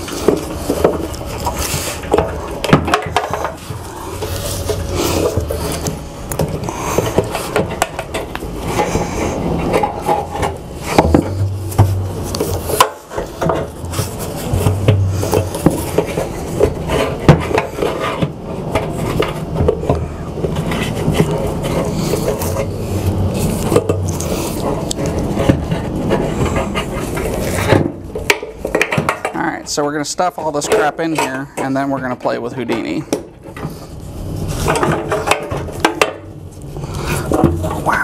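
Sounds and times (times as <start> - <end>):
hands rubbing and scraping parts: 0.0 - 38.0.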